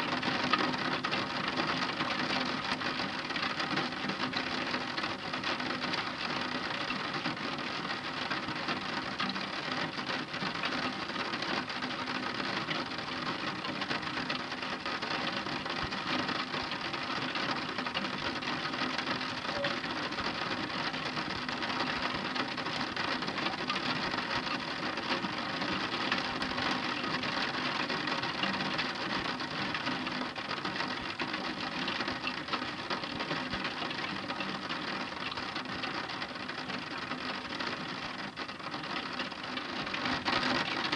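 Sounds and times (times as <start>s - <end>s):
heavy rain on hard surface: 0.0s - 40.9s.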